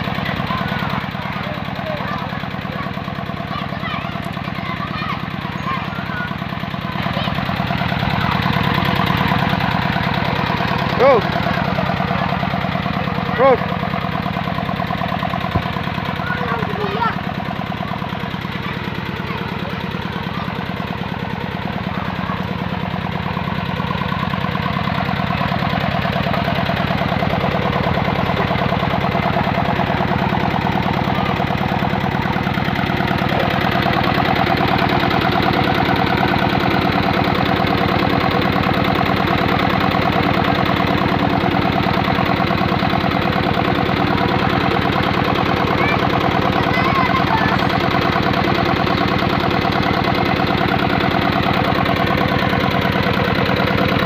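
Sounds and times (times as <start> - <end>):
diesel engine knocking: 0.0 - 54.0.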